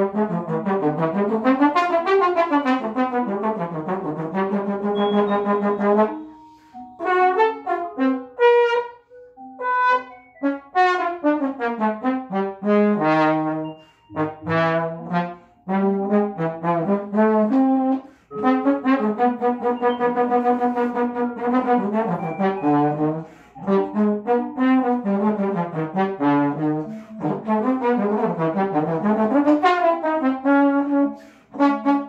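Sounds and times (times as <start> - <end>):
trombone playing short notes: 0.0 - 9.0, 9.6 - 32.0.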